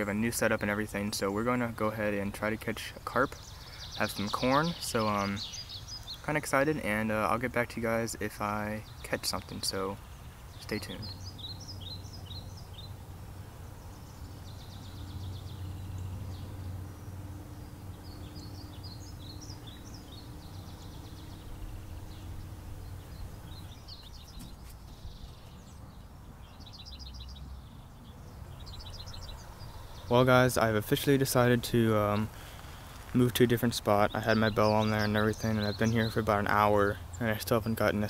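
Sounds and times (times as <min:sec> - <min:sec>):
low outdoor rumble: 0:00.0 - 0:38.0
small birds chirping and trilling: 0:00.0 - 0:38.0.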